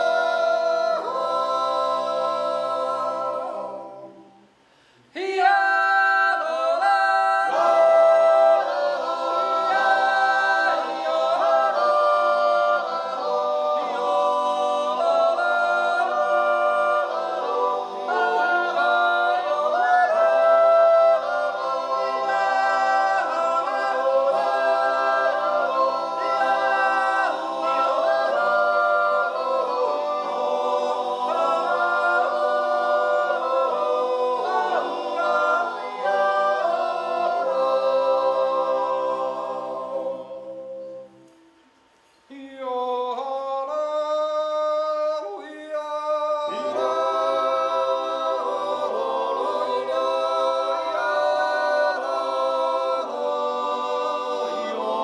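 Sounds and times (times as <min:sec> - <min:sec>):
men's choir yodelling: 0:05.2 - 0:41.0, 0:46.2 - 0:55.0.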